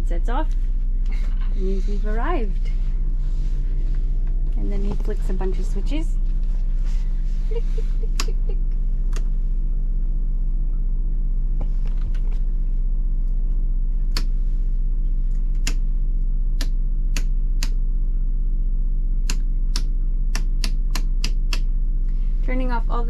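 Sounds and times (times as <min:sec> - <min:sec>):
generator humming: 0:00.0 - 0:23.0.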